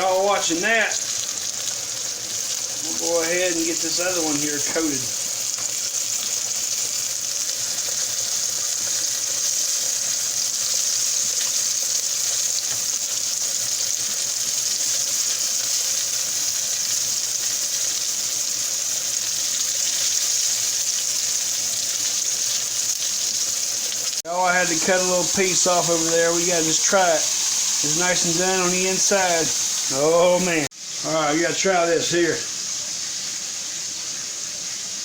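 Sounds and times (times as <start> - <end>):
steak sizzling in hot oil: 0.0 - 35.0.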